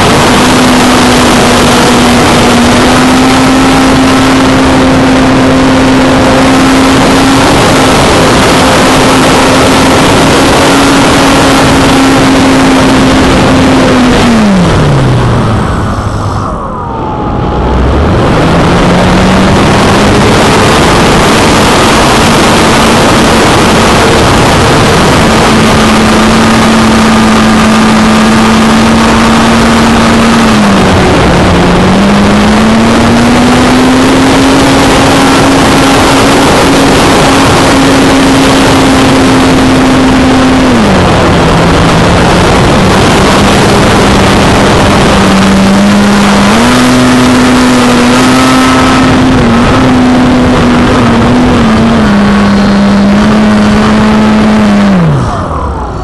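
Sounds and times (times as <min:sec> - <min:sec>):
electric motor and propeller drone: 0:00.0 - 0:56.0
wind rush on microphone: 0:00.0 - 0:56.0.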